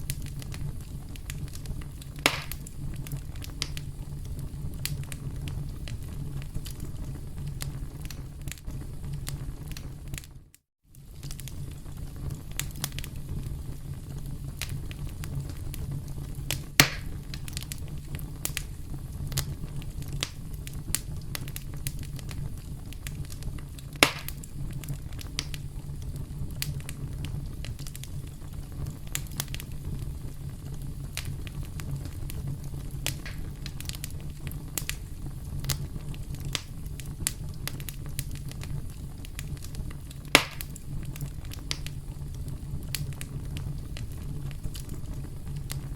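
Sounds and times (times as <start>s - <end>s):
campfire crackling: 0.0s - 45.9s
fire pops: 0.0s - 45.9s.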